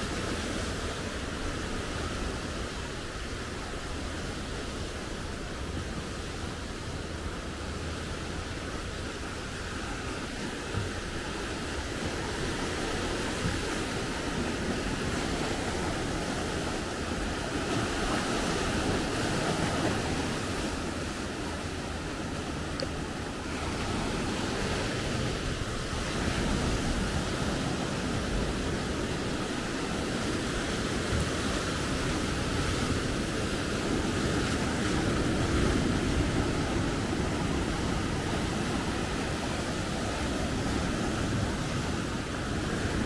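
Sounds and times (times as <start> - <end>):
wind rumbling on microphone: 0.0 - 43.0
surf breaking over rocks: 8.1 - 43.0.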